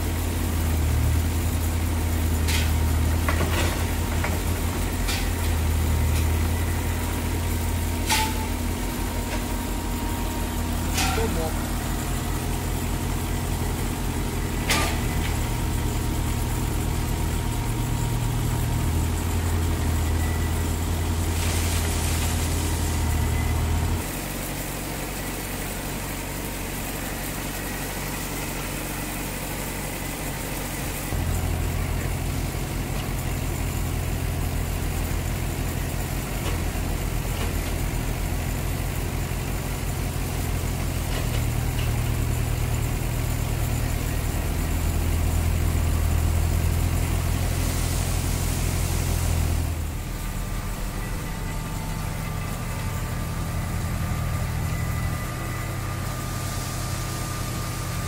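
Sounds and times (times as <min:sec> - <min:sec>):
diesel engines humming: 0:00.0 - 0:58.0.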